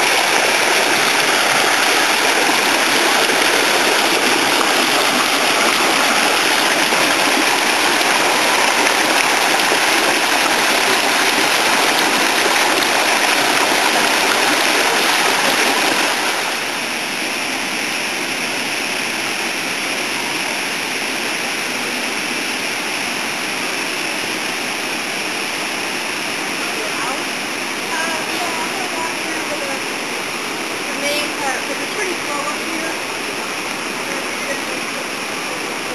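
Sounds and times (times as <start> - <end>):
water rushing down a fish ladder: 0.0 - 35.9.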